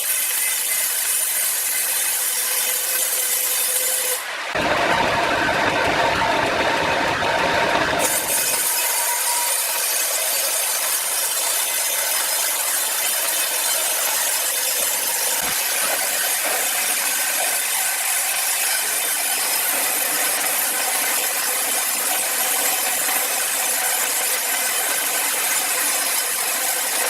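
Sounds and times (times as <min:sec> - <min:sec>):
power saw cutting log: 0:00.0 - 0:27.0.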